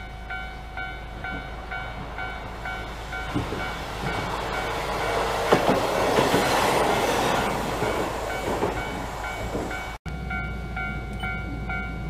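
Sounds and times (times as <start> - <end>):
crossing warning bell ringing: 0.0 - 12.0
tram wheels clicking over rail joints: 0.1 - 10.4.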